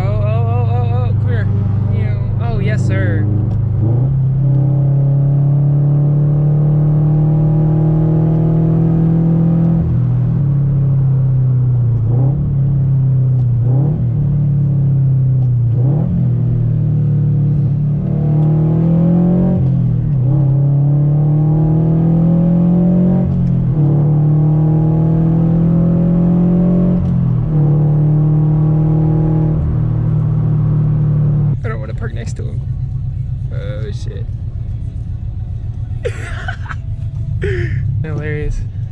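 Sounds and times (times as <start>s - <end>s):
car engine drone: 0.0s - 38.9s.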